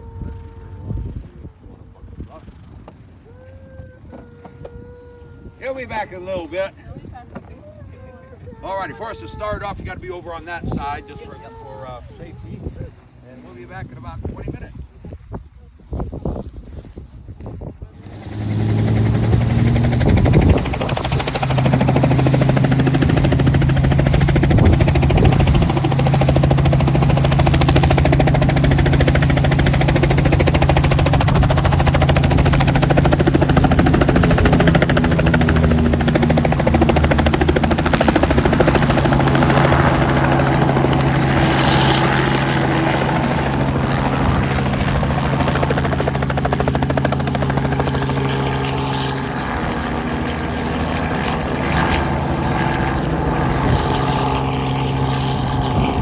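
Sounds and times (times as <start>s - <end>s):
helicopter rotor running: 0.0s - 56.0s.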